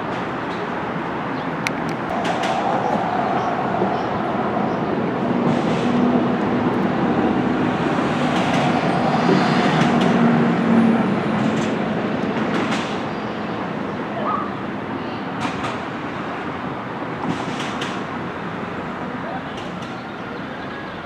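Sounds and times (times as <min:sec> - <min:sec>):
passenger train rumbling: 0:00.0 - 0:21.0.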